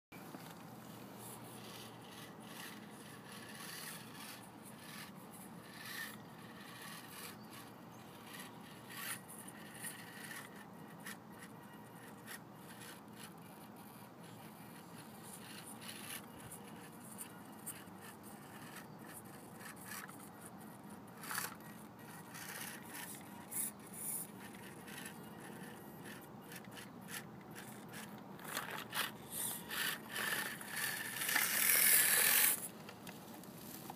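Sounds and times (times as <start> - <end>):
tyres scraping on rock: 0.3 - 33.9.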